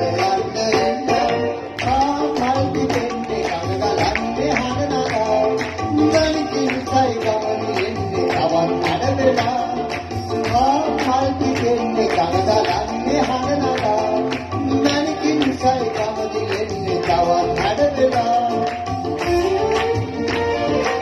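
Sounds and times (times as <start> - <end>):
hand drums: 0.0 - 21.0
man singing into microphone: 0.0 - 21.0
steady drum beat: 0.0 - 21.0.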